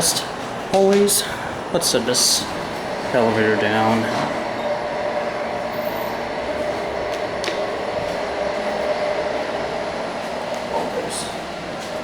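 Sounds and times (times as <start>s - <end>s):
elevator ride hum and air rush: 0.0s - 12.0s.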